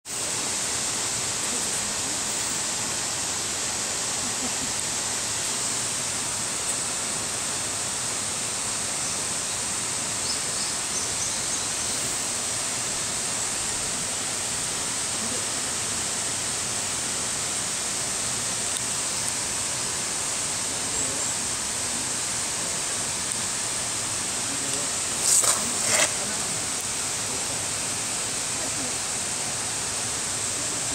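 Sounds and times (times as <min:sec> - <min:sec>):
outdoor background hiss: 0:00.0 - 0:30.9.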